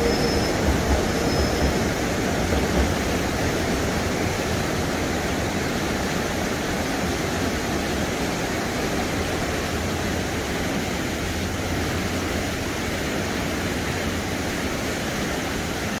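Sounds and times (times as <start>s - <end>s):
river rushing over a weir: 0.0s - 16.0s.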